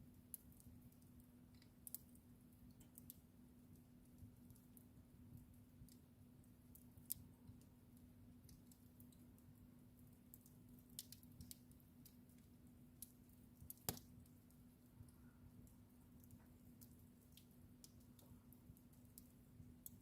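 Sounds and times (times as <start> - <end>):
faint steady hum: 0.0 - 20.0
wood fire crackling: 0.0 - 20.0.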